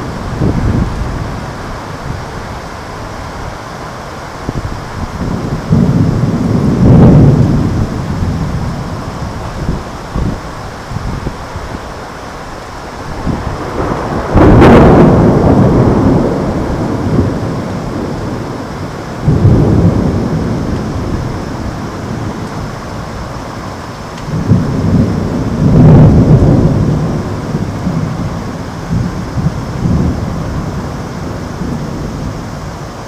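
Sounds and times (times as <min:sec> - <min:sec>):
steady rain: 0:00.0 - 0:33.0
thunder clap and rumbling: 0:00.0 - 0:33.0.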